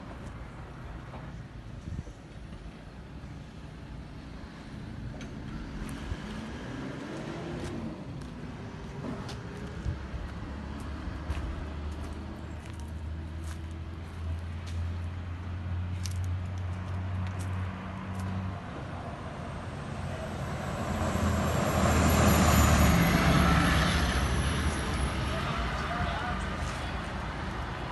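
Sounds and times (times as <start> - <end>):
rush of vehicle noise: 0.0 - 27.9.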